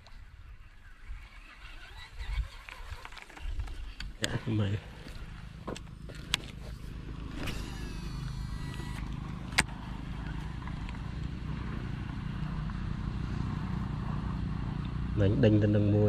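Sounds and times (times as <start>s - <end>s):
fishing reel spool whirring: 0.2s - 15.3s.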